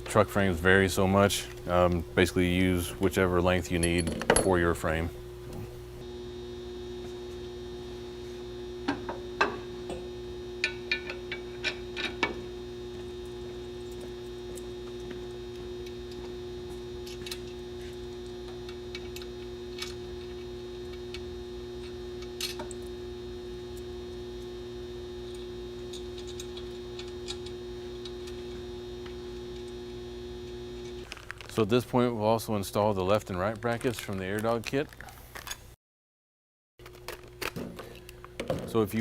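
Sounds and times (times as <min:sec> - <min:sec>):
electrical hum: 0:00.0 - 0:35.7, 0:36.8 - 0:39.0.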